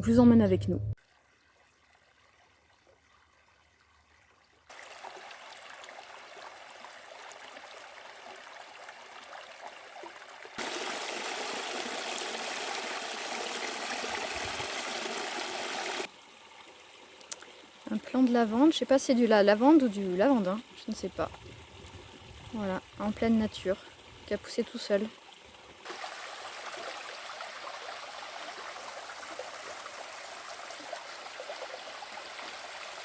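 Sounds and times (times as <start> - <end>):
creek trickling: 1.0 - 33.0.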